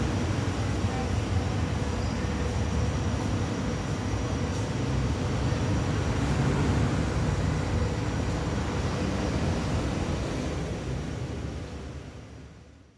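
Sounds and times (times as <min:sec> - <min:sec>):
low rumbling background noise: 0:00.0 - 0:12.9.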